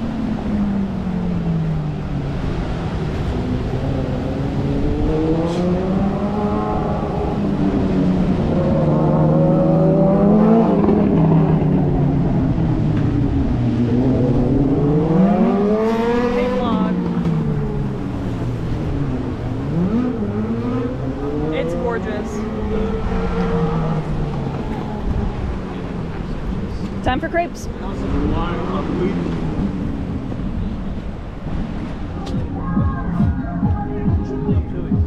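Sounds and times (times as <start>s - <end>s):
vehicle engine revving: 0.0s - 35.0s.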